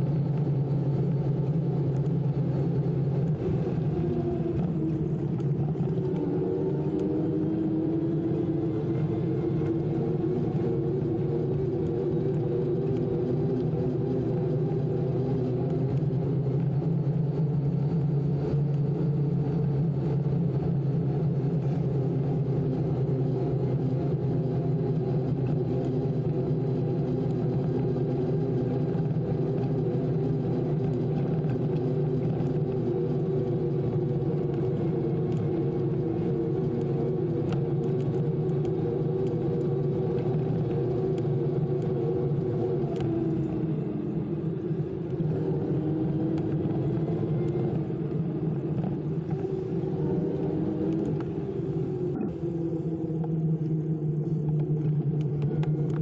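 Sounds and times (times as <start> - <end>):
electric motor hum: 0.0 - 56.0.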